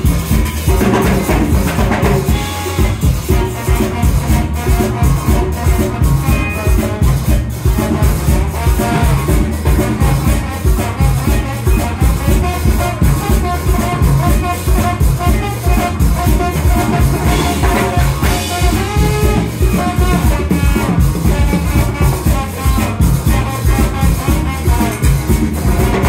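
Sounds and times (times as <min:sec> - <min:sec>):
drum kit beat: 0:00.0 - 0:26.0
horn line: 0:00.0 - 0:26.0
live ska band music: 0:00.0 - 0:26.0.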